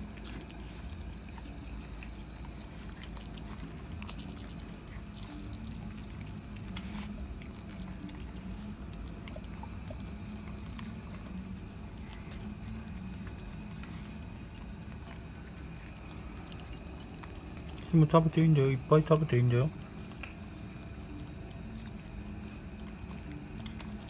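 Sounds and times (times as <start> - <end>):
kittens chewing and licking: 0.0 - 24.0.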